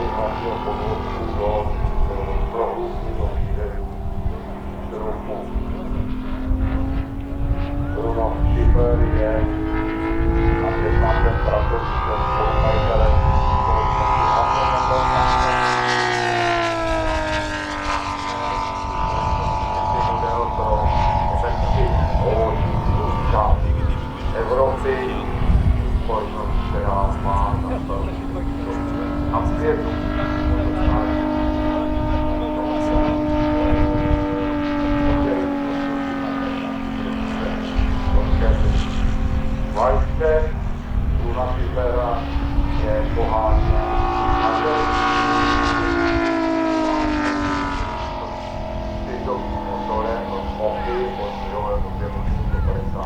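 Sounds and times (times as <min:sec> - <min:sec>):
model airplane engine drone: 0:00.0 - 0:53.0
wind rumble on microphone: 0:00.0 - 0:53.0.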